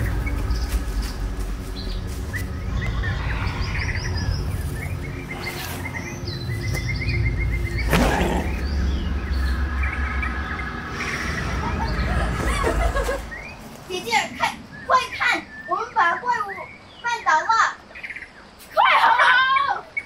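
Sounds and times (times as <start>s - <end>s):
steady low hum: 0.0s - 17.0s
songbirds chirping and singing: 0.0s - 20.0s.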